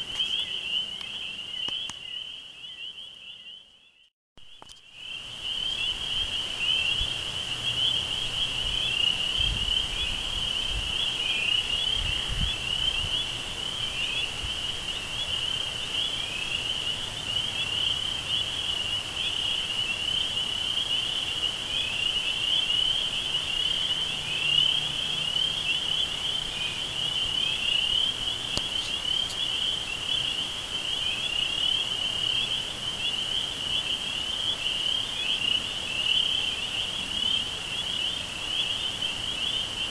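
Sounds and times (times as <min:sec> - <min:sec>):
insect chorus trilling: 0:04.5 - 0:39.9.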